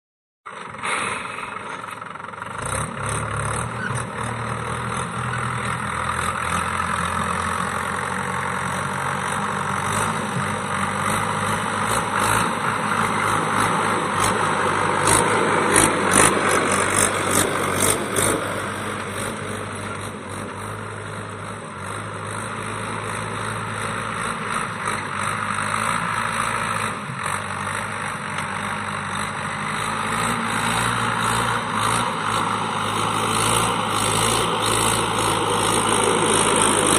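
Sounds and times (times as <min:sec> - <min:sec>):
tractor diesel engine running: 0:00.5 - 0:36.9.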